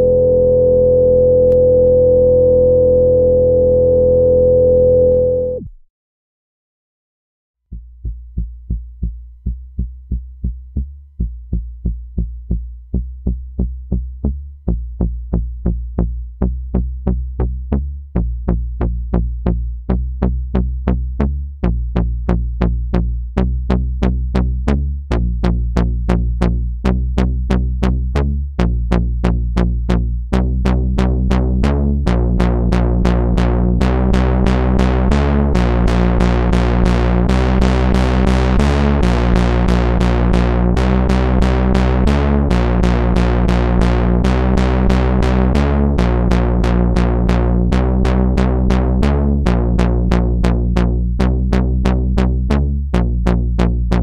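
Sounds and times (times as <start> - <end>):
synth bass line: 0.0 - 5.8, 7.7 - 54.0.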